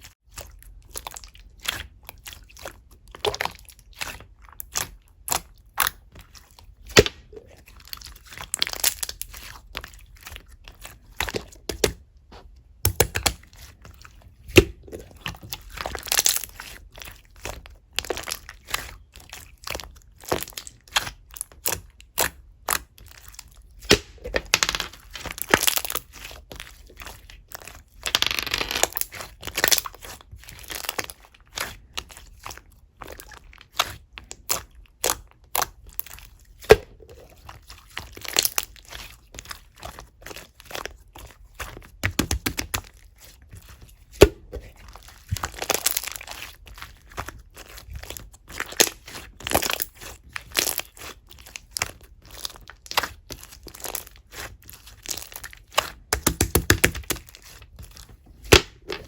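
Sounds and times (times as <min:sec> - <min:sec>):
slime squished by hand: 0:00.3 - 0:24.4, 0:28.9 - 0:59.0.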